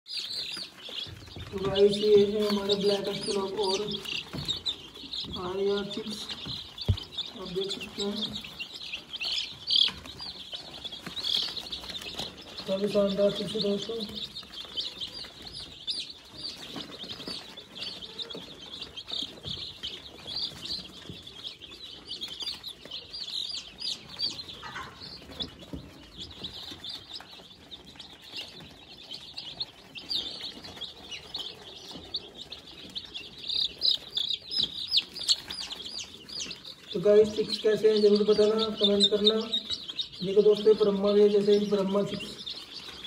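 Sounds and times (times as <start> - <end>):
chicks peeping: 0.0 - 43.0.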